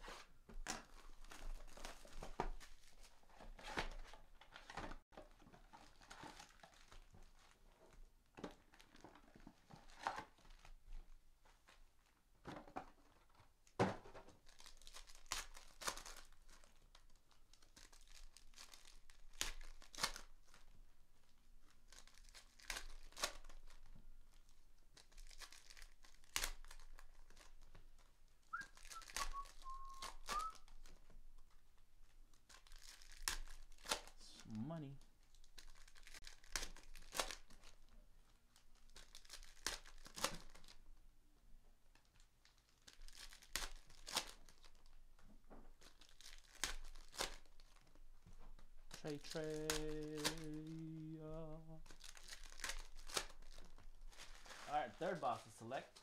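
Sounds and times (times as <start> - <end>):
wrappers tearing and crinkling: 0.8 - 4.9, 5.6 - 7.6, 14.4 - 31.6, 32.3 - 40.8, 41.9 - 45.0, 45.7 - 56.0.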